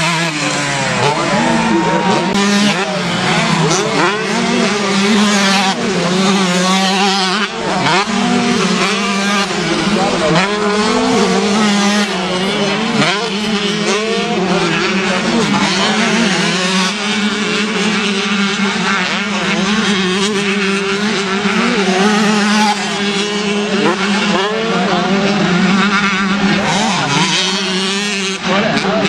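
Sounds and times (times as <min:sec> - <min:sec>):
motocross bikes revving: 0:00.0 - 0:29.0.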